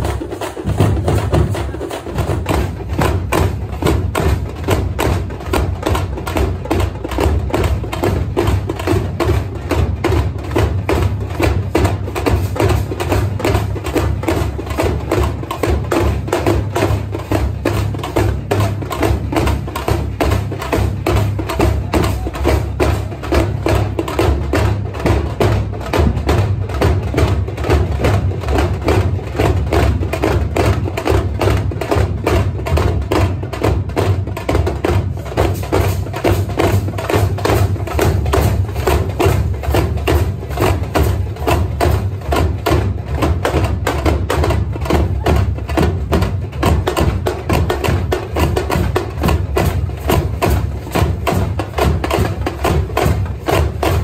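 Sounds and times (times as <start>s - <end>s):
deep drum: 0.0s - 54.0s.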